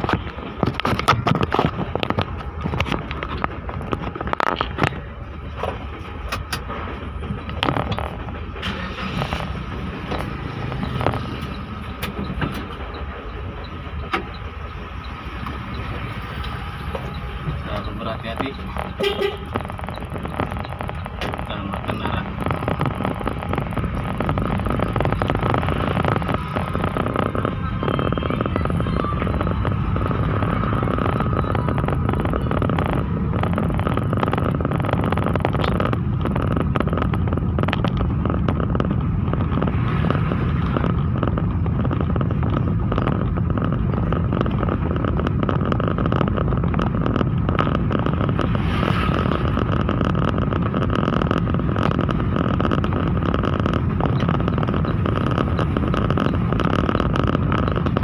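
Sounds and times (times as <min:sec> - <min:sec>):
pickup truck driving: 0:00.0 - 0:58.0.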